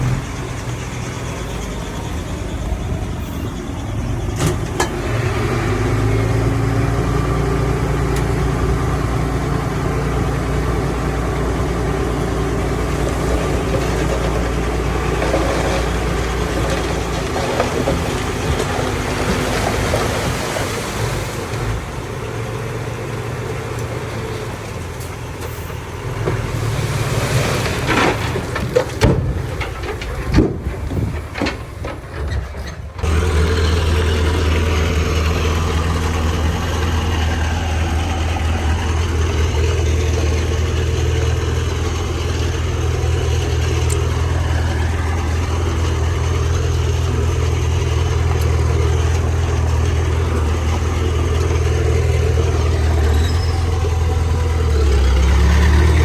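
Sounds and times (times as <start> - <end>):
diesel earth-moving machinery running: 0.0 - 56.0.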